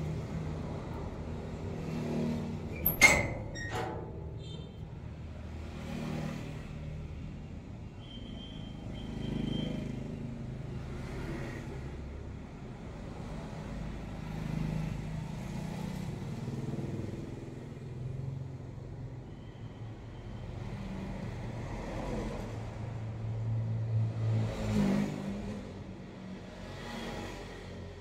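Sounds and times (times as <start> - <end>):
vehicle engines passing: 0.0 - 7.9, 8.8 - 19.2, 19.9 - 28.0.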